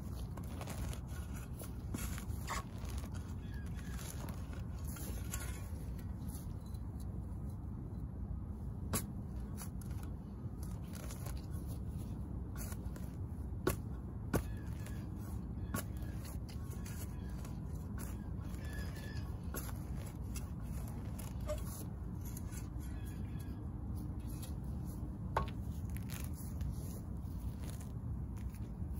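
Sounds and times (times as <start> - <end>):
roots tearing: 0.0 - 6.5, 8.9 - 28.9.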